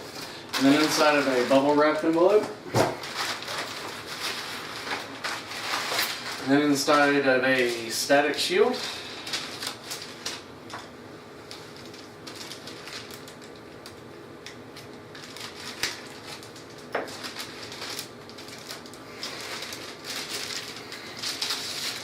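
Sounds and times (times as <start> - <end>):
plastic bag crinkling and rustling: 0.0 - 22.0.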